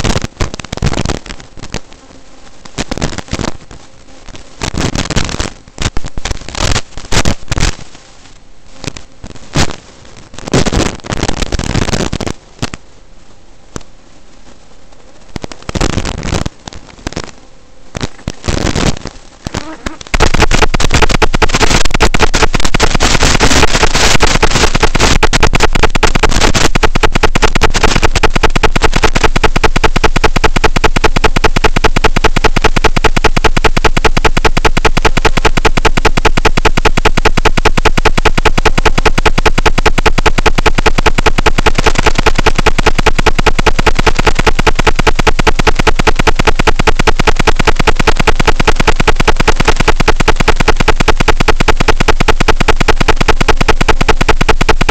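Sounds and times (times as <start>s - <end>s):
pulsing electronic static buzz: 0.0s - 54.9s.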